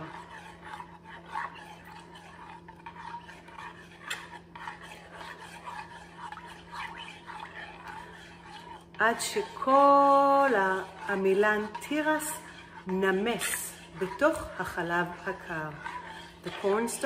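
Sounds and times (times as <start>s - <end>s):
metal spoon scraping a saucepan: 0.0s - 17.0s.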